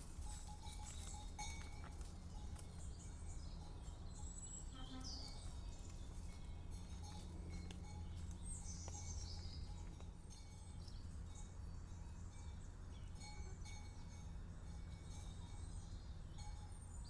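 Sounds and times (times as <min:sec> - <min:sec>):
faint birds chirping: 0:02.3 - 0:17.0.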